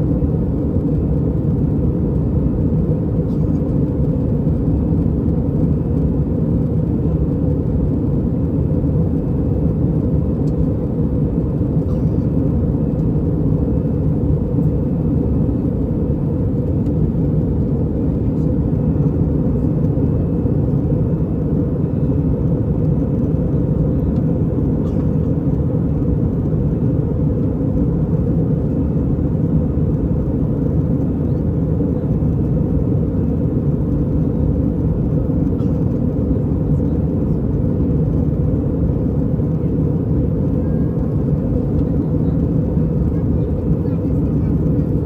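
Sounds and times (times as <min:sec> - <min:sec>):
airliner cabin rumble: 0:00.0 - 0:45.0.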